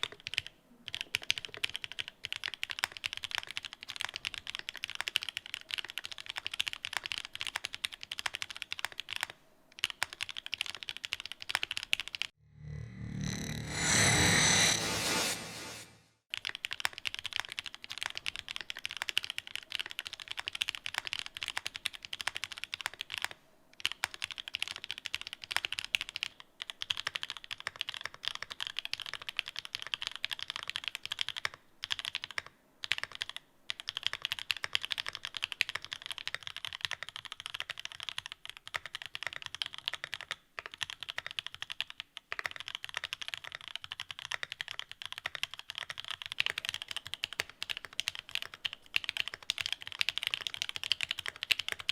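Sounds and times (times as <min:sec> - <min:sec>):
mechanical keyboard typing: 0:00.0 - 0:12.3, 0:16.3 - 0:51.9.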